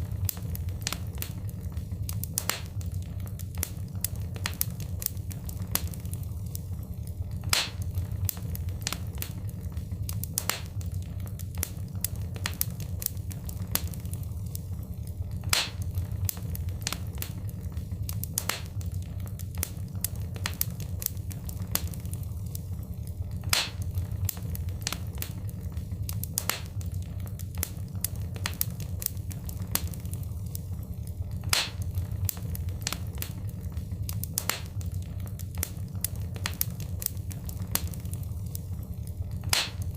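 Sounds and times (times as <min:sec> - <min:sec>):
fire pops: 0:00.0 - 0:39.9
wood fire crackling: 0:00.0 - 0:39.9.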